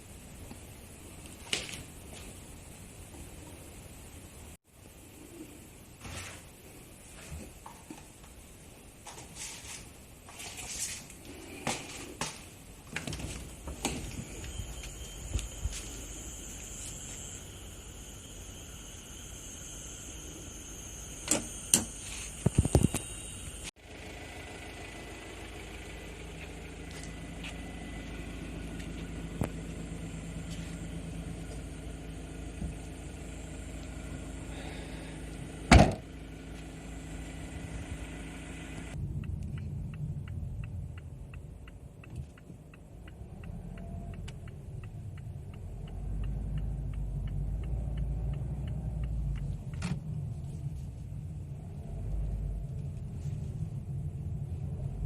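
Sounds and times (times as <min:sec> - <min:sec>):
vehicle engine hum: 0:09.1 - 0:55.0.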